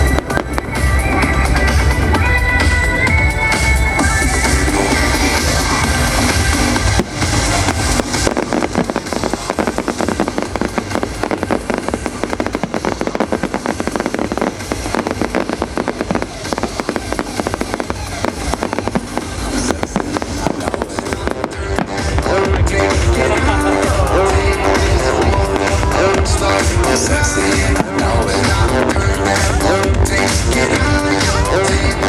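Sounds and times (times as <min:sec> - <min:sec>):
firework bangs and crackles: 0:00.0 - 0:32.0
music: 0:00.0 - 0:32.0.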